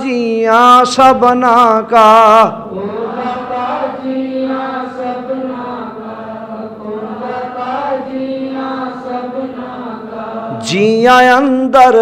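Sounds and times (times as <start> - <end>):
congregation chanting a hymn: 0.0 - 12.0.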